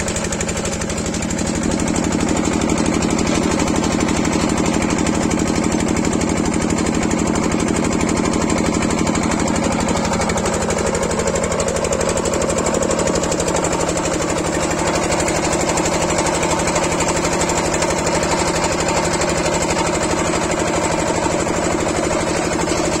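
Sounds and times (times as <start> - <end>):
drilling rig engine chugging: 0.0 - 23.0.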